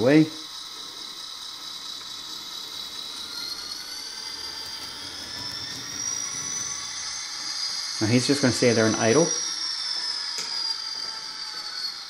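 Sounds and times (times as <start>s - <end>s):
model locomotive whine rising in pitch: 0.0s - 12.0s.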